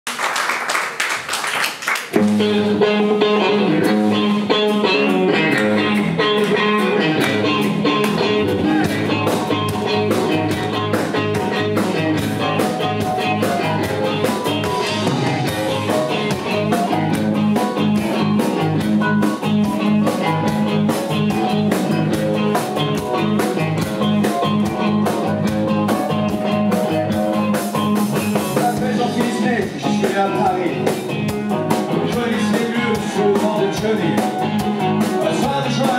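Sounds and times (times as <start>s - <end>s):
rock band playing: 2.0s - 35.9s
repeating bass line: 2.2s - 35.9s.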